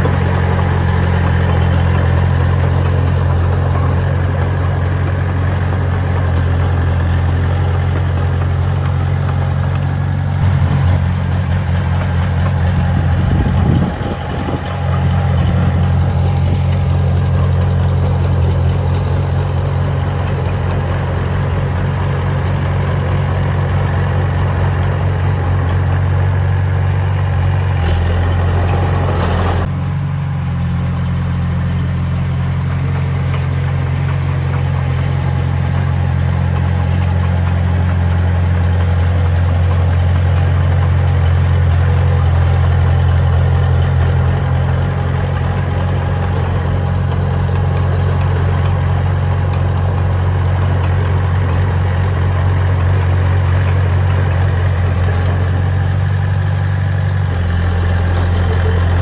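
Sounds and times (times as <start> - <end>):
diesel engine running at low revs: 0.0 - 59.0.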